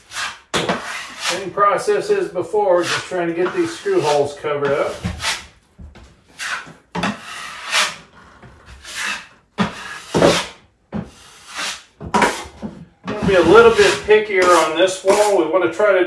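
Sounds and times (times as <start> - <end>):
drywall knife scraping: 0.0 - 5.6, 6.2 - 15.5.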